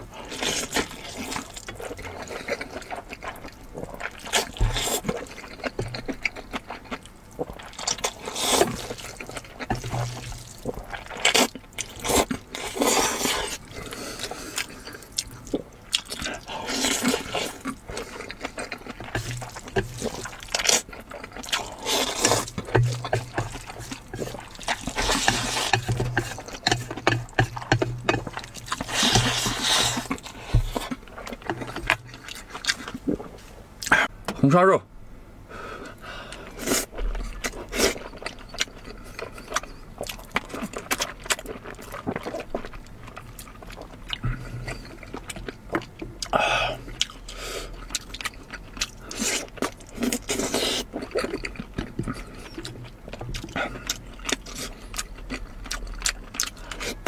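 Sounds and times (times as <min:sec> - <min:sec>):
slurping and chewing noodles: 0:00.0 - 0:34.1, 0:35.8 - 0:57.0.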